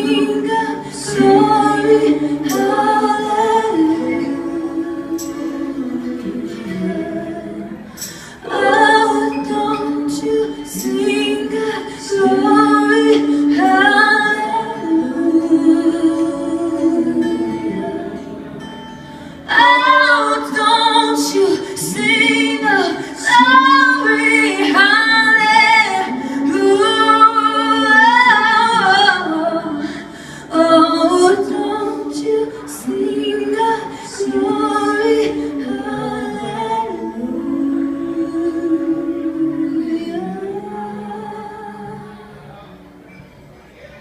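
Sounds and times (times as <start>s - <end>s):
woman singing with vibrato: 0.0s - 18.6s, 19.2s - 42.4s
light musical accompaniment: 0.0s - 44.0s.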